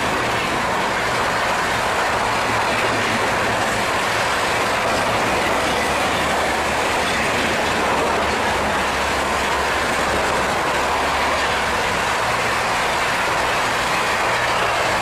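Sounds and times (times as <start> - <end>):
train passing at high speed: 0.0 - 15.0.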